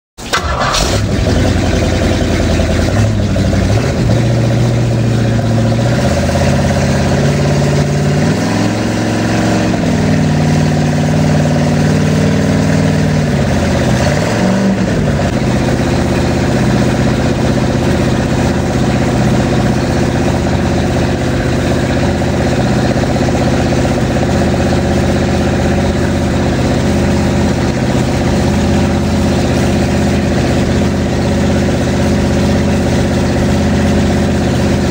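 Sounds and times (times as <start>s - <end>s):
engine running at fast idle: 0.2s - 34.9s.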